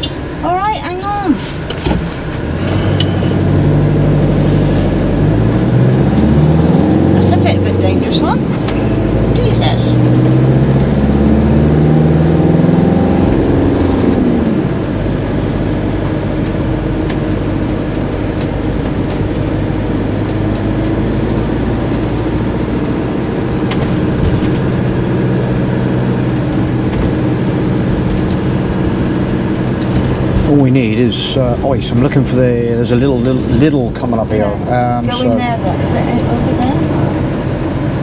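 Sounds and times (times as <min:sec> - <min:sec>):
diesel engine accelerating: 0:00.0 - 0:38.0
road noise: 0:00.0 - 0:38.0.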